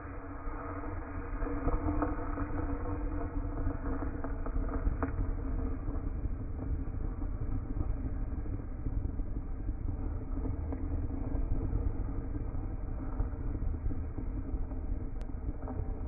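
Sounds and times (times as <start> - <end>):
bunsen burner flame rumble: 0.0 - 16.0.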